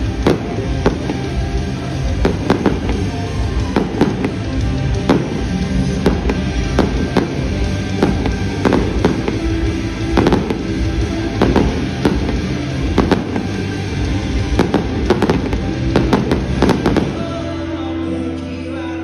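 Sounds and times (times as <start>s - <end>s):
fireworks bursting with bangs: 0.0s - 17.8s
music playing: 0.0s - 19.0s.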